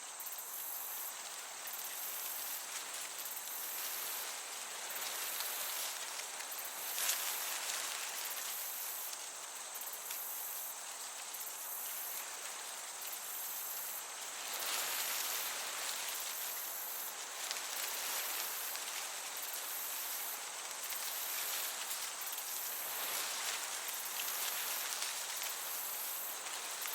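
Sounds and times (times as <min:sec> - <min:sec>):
breeze through grass: 0:00.0 - 0:26.9
crickets chirping: 0:00.0 - 0:26.9.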